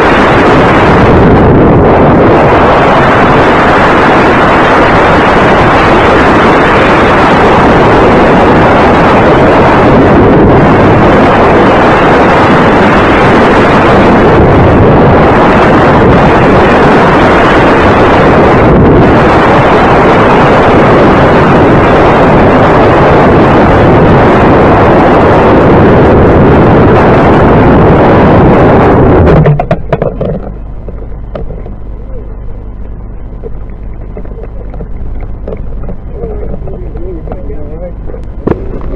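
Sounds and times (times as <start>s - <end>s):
wind rushing over camera: 0.0s - 38.9s.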